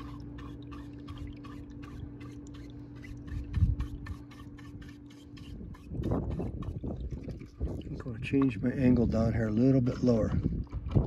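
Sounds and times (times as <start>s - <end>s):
low hum: 0.0s - 11.0s
thin flow of water: 0.0s - 11.0s.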